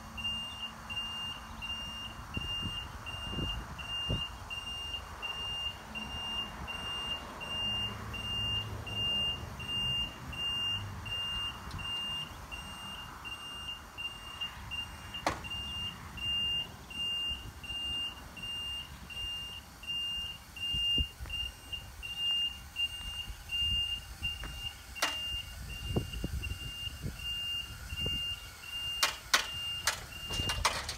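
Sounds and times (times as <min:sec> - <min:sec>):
lift alarm beeping: 0:00.0 - 0:30.9.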